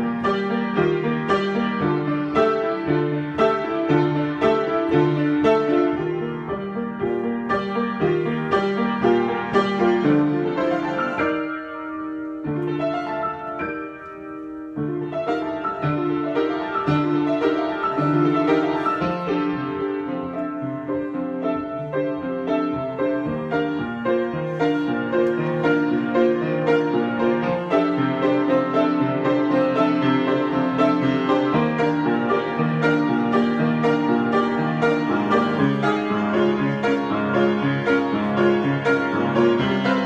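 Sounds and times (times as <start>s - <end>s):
improvised piano music: 0.0s - 40.0s.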